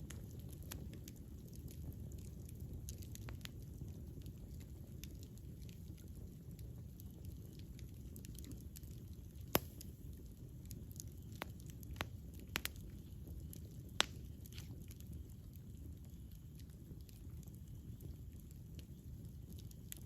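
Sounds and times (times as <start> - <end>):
campfire crackles and pops: 0.0 - 20.0
low rumble of campfire: 0.0 - 20.0.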